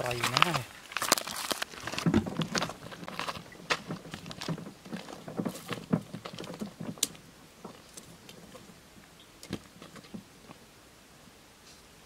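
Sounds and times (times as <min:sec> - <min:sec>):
footsteps on dry mud: 0:00.0 - 0:08.8, 0:09.4 - 0:10.6.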